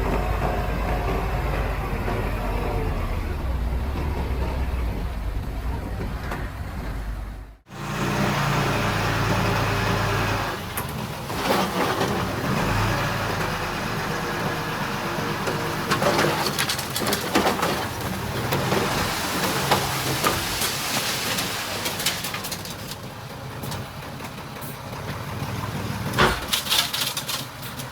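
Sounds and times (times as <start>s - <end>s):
heavy machinery diesel engines: 0.0s - 27.9s.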